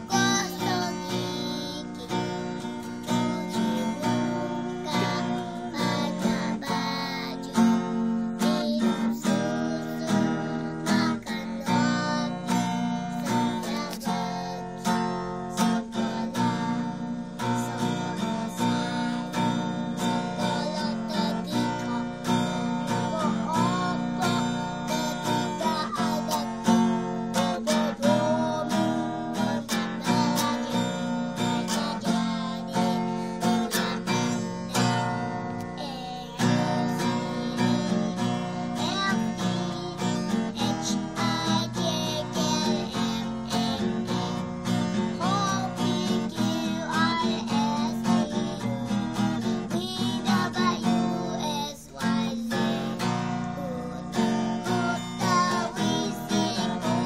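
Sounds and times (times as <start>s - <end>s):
acoustic guitar strumming: 0.0s - 57.0s
boy singing: 0.0s - 57.0s.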